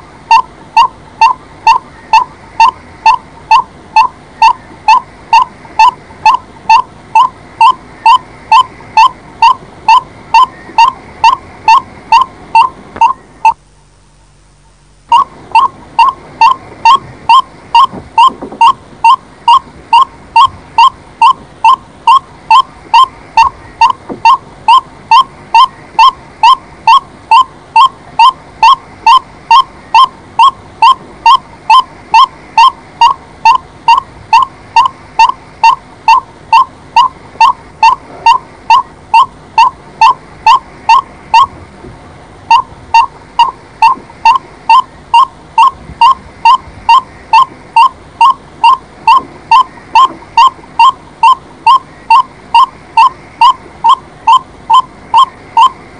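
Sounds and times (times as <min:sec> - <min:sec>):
bird hooting calls: 0:00.3 - 0:13.6, 0:15.1 - 0:41.5, 0:42.5 - 0:55.8.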